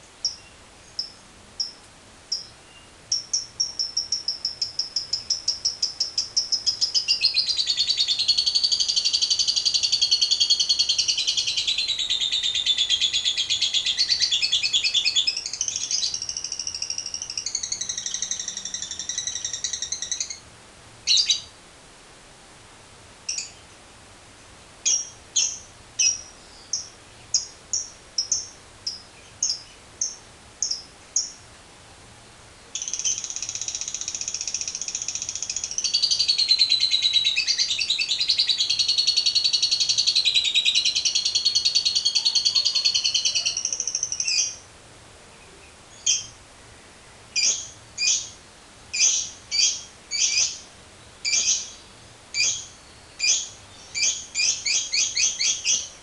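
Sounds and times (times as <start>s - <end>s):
lovebird chirping and trilling: 0.2s - 20.4s, 21.1s - 21.5s, 23.3s - 23.6s, 24.8s - 31.4s, 32.7s - 44.6s, 45.9s - 46.4s, 47.3s - 56.0s.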